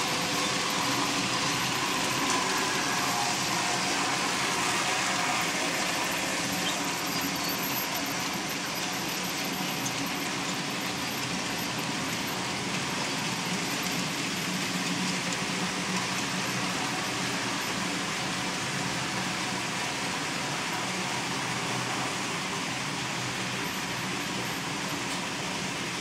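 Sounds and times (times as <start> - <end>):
model train wheels rumbling: 0.0 - 26.0.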